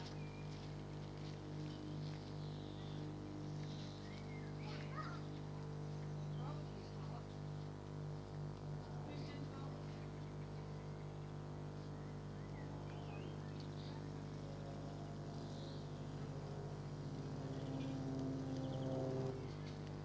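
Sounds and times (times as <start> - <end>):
droning engine-like sound: 0.0 - 20.0
low electrical hum: 0.0 - 20.0.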